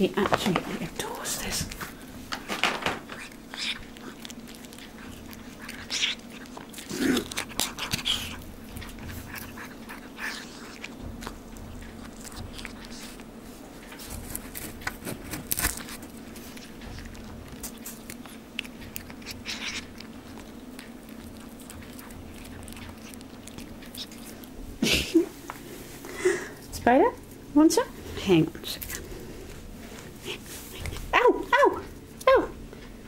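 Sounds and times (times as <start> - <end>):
cat crunching treat: 0.2 - 27.4, 28.0 - 31.1.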